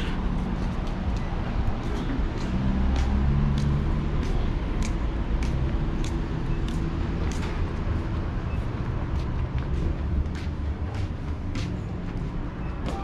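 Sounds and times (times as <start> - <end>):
footsteps at walking pace: 0.1 - 13.0.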